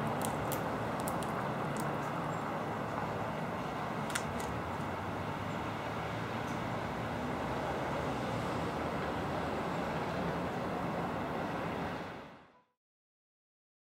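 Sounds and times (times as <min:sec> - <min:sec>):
distant traffic rumble: 0:00.0 - 0:12.5.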